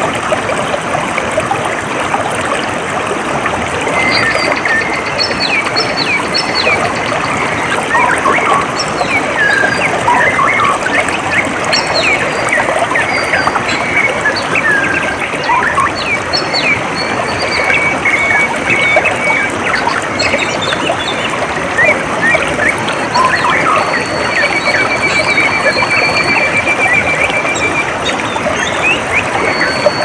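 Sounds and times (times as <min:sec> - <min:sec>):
birds chirping and calling: 0:04.0 - 0:30.0.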